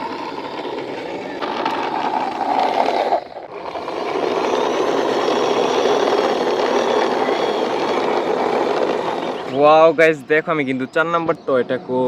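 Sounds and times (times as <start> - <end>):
engine-like vehicle noise: 0.0 - 12.0.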